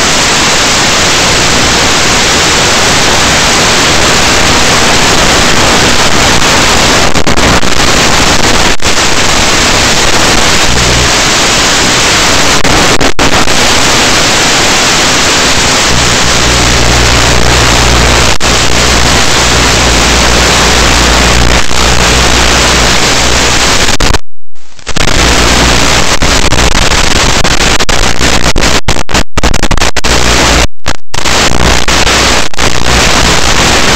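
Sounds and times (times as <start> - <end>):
static hiss: 0.0 - 33.9.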